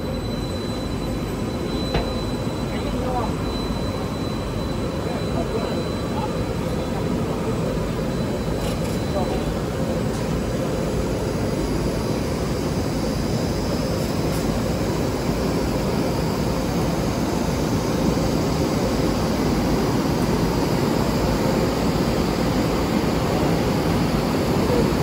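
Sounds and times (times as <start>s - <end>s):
printing press machine drone: 0.0s - 25.0s.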